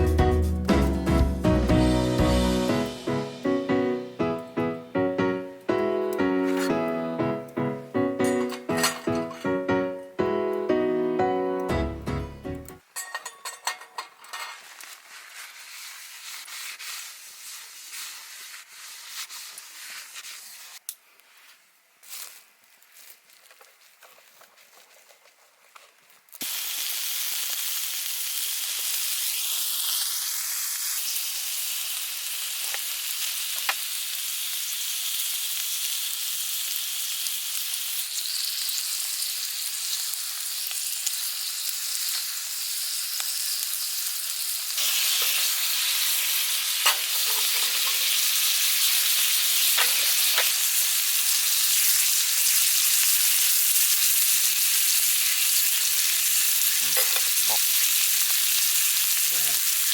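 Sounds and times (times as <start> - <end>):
food sizzling in a frying pan: 0.0 - 9.8, 12.8 - 23.6, 26.2 - 59.9.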